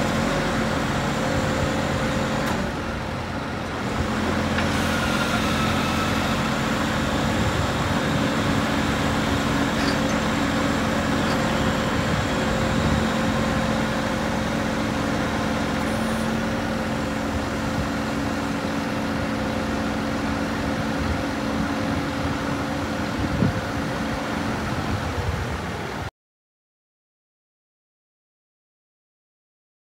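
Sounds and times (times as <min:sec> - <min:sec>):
hydraulic hum: 0:00.0 - 0:24.8
diesel truck engine running: 0:00.0 - 0:26.1.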